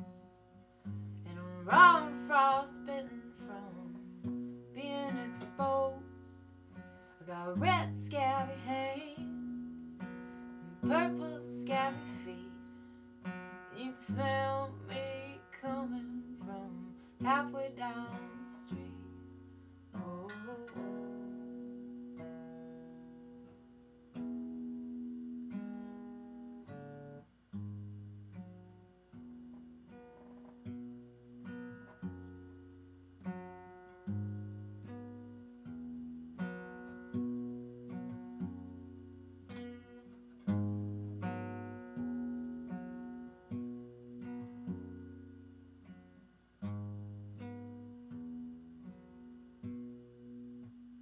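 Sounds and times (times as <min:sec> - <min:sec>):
acoustic guitar strummed chords: 0:00.0 - 0:51.0.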